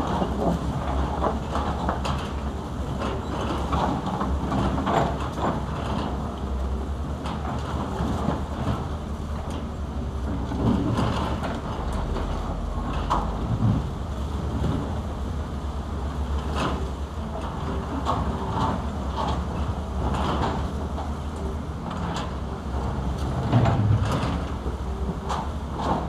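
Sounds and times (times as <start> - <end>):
excavator diesel engines under load: 0.0 - 26.0.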